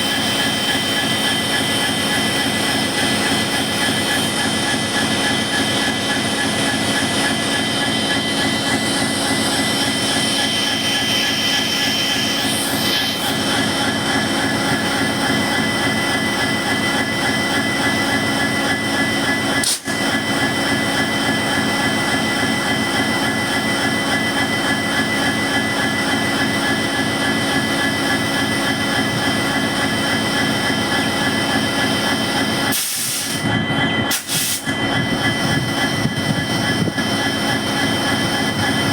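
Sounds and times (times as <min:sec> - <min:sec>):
diesel locomotive engine running: 0:00.0 - 0:38.9
turbocharger high humming: 0:00.0 - 0:38.9.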